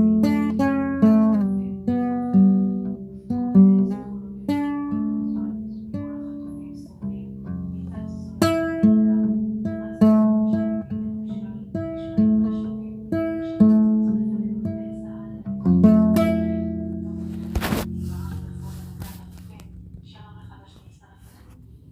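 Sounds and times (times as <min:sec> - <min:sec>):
guitar plucked slowly: 0:00.0 - 0:20.0.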